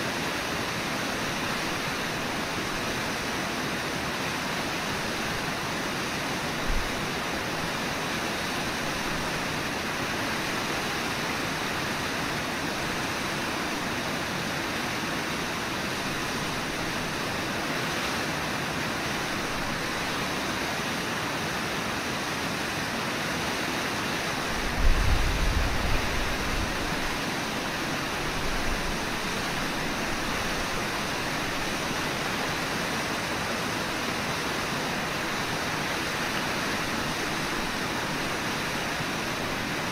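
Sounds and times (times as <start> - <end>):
river rushing over shallows: 0.0 - 39.9.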